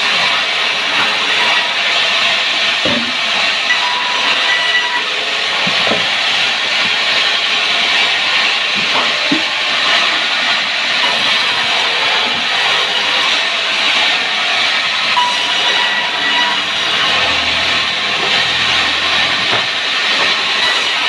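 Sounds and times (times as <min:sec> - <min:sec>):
power saw cutting wood: 0:00.0 - 0:21.0.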